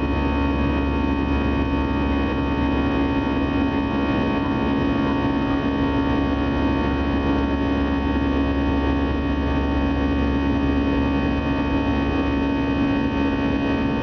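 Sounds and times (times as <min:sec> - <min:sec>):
strong steady hum: 0:00.0 - 0:14.0.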